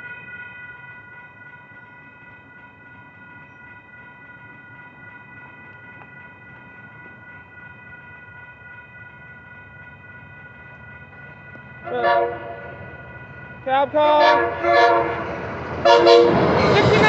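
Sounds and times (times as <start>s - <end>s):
railroad crossing bell ringing: 0.0s - 17.0s
train approaching: 0.0s - 17.0s.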